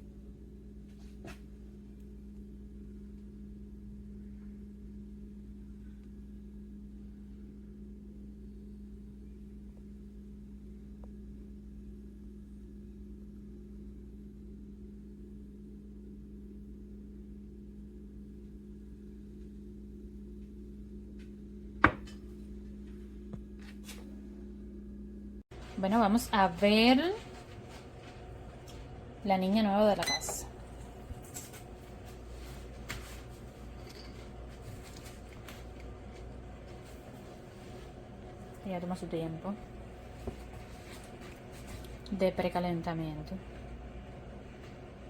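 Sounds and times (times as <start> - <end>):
low motor hum: 0.0 - 45.0.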